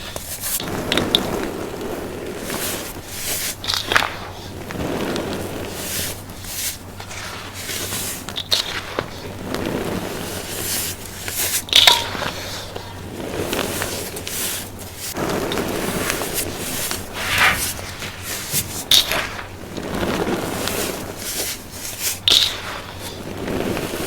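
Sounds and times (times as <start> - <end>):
baking soda crunching: 0.0 - 24.0.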